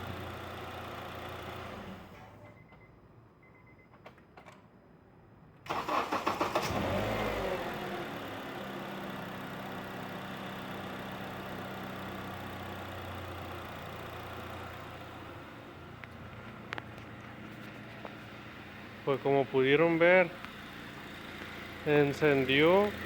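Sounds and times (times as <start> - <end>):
car engine starting and idling: 0.0 - 2.7, 5.6 - 23.0.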